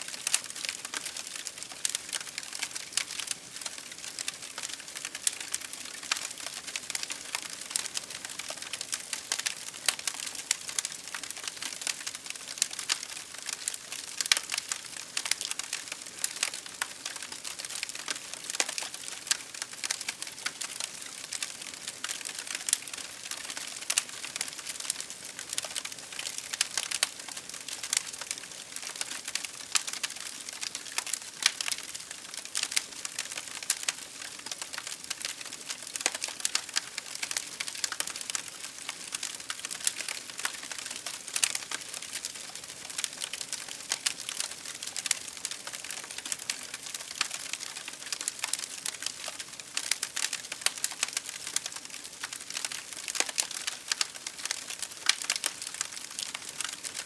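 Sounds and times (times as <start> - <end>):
campfire crackling: 0.1 - 57.0.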